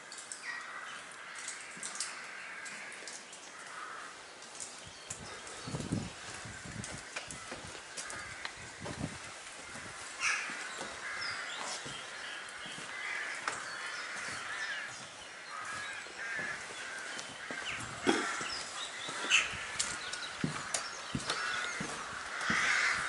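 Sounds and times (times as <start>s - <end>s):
footsteps on wet wood and stone: 0.0s - 23.0s
crows cawing: 0.4s - 4.3s, 5.2s - 23.0s.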